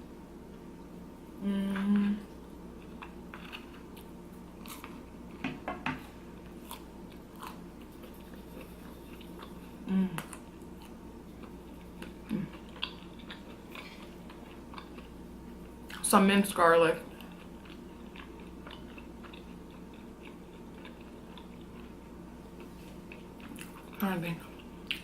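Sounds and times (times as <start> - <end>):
crunchy chewing: 2.7 - 5.4, 6.3 - 16.0, 17.1 - 25.0.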